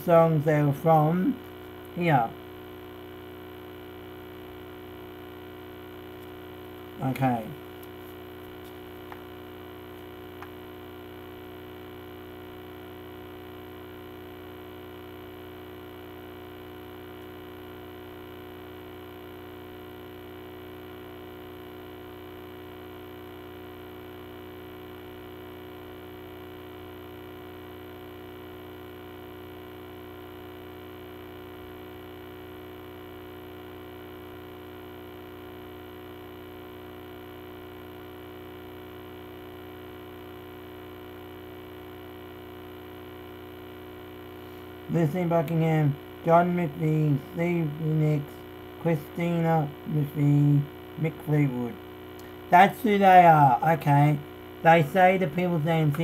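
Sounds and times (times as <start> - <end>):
buzzy electrical hum: 0.0 - 56.0.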